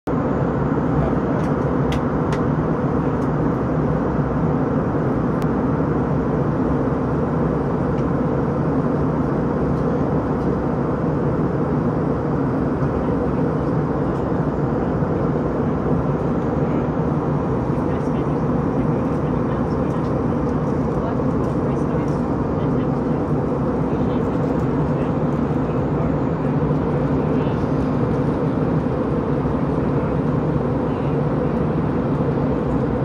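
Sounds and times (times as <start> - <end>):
airliner cabin noise: 0.1 - 33.0.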